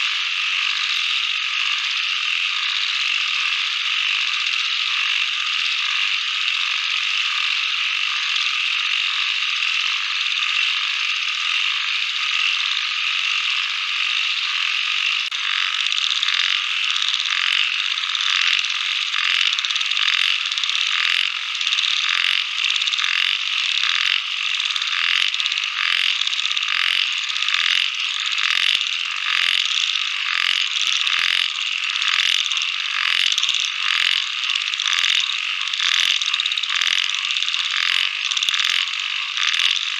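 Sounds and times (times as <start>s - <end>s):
chorus of calling animals: 0.0s - 39.9s.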